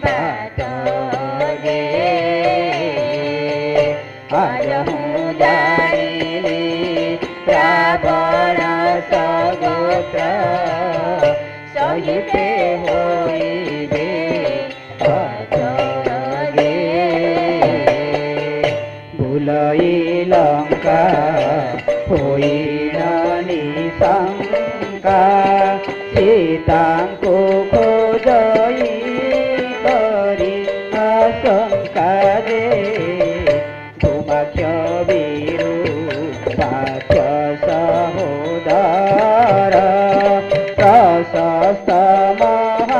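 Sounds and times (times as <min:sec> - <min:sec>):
rhythmic percussion: 0:00.0 - 0:42.9.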